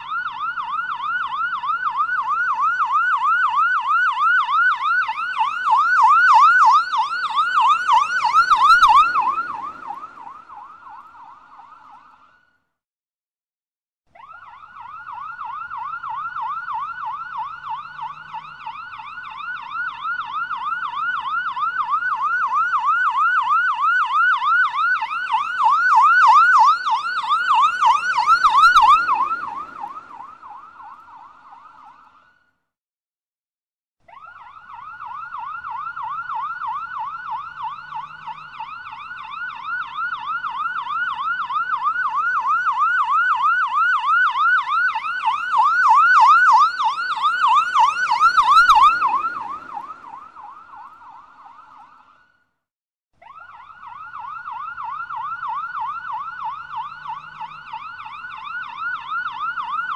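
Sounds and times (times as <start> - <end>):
police siren yelping: 0.0 - 12.3, 14.2 - 32.3, 34.1 - 52.2, 53.2 - 59.9.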